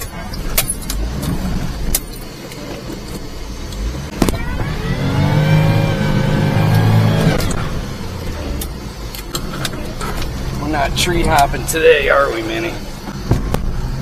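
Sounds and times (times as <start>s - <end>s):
small truck engine revving: 0.0s - 14.0s.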